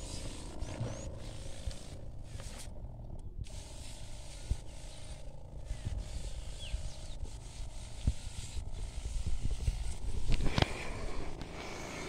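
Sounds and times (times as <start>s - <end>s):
handling rumble: 0.0s - 12.0s
sprayer hum: 0.0s - 12.0s.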